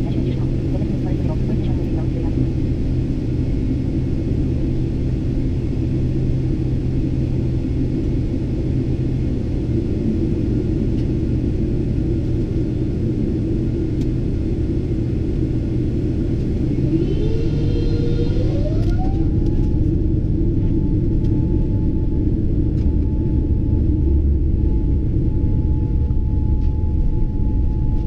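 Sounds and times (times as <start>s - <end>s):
jet engines rumbling: 0.0s - 28.0s
jet engines whining as they spool up: 0.0s - 28.0s.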